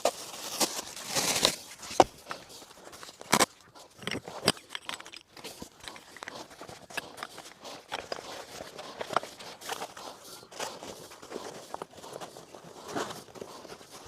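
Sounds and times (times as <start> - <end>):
gear rustling and crinkling: 0.0 - 14.0.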